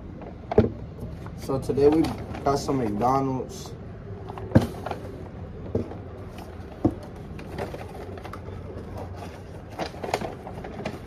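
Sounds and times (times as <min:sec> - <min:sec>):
cups and paper bag handled: 0:00.0 - 0:11.0
low steady hum: 0:00.0 - 0:11.0.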